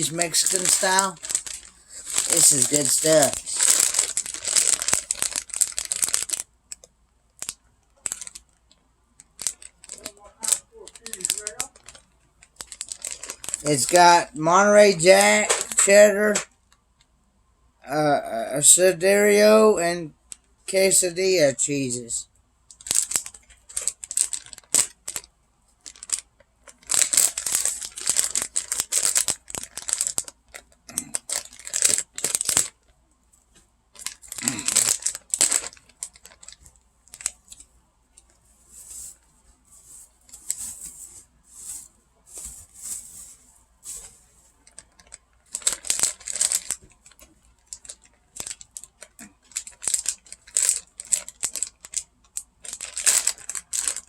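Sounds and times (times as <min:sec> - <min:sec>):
plastic bag crinkling: 0:00.0 - 0:16.4, 0:22.7 - 0:32.9, 0:33.9 - 0:54.0.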